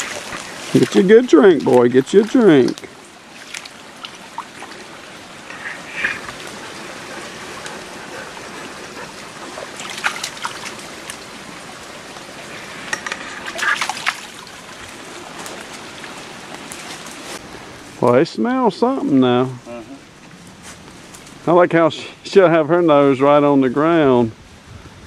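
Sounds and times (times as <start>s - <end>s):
stream trickling: 0.0s - 20.2s
rustling brush and leaves: 0.0s - 25.0s.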